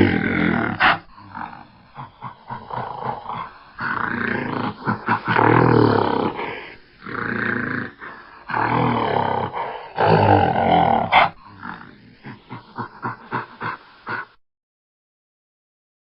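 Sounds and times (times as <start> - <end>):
gorilla roaring: 0.0 - 14.4.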